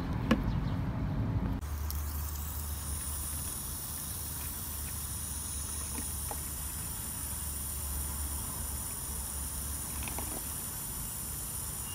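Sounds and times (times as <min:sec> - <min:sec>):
hose water filling bottle: 0:01.6 - 0:11.9.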